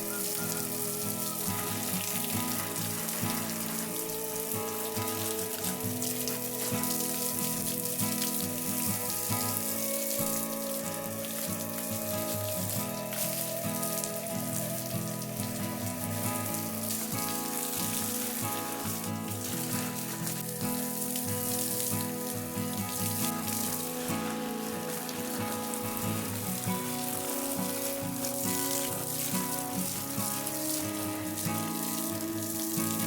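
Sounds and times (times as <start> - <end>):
background music with sustained chords: 0.0 - 33.0
steady rain-like hiss: 0.0 - 33.0.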